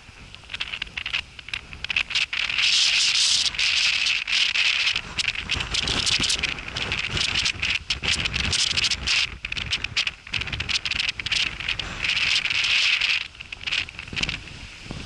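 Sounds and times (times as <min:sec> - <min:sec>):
dry grass rustling and crackling: 0:00.0 - 0:15.0.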